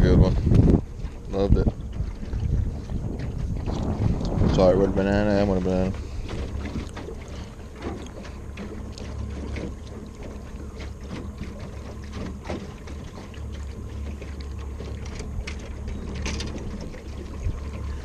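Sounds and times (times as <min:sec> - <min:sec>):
boat motor hum: 0:00.0 - 0:18.0
water slapping against boat hull: 0:00.0 - 0:18.0.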